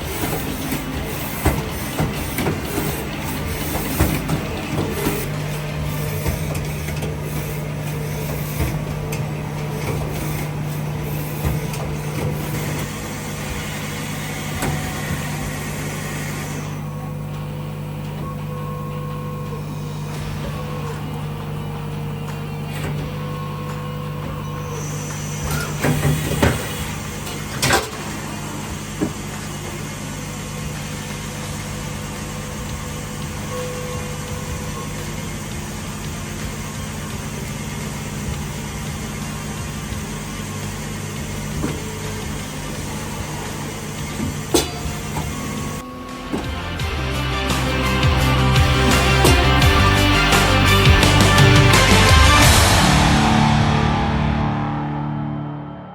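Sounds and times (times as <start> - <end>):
machine hum: 0.0 - 55.9.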